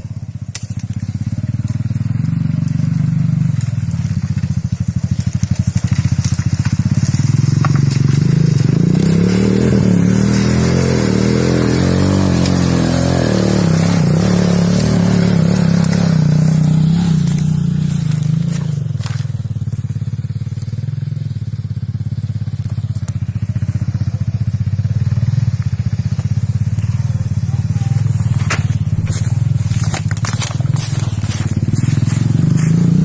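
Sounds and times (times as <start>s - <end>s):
quad bike engine idling and revving: 0.0s - 33.0s.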